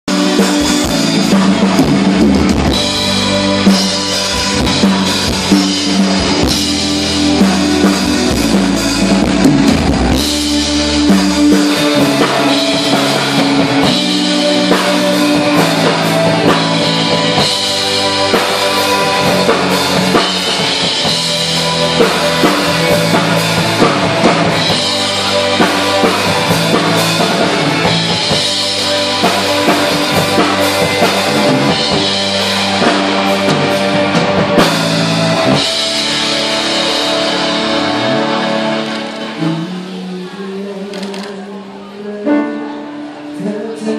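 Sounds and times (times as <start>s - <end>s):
drum kit: 0.0s - 41.2s
electric guitars: 0.0s - 43.9s
keyboard: 0.0s - 43.9s
heavy deep bass: 0.1s - 41.8s.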